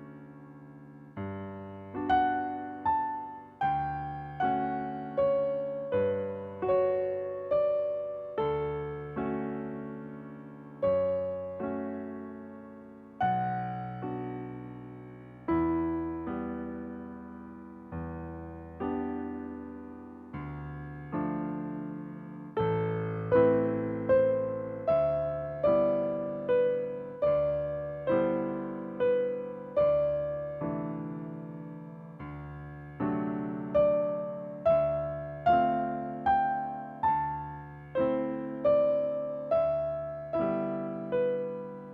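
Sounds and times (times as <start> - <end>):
slow gentle solo piano: 0.0 - 41.9.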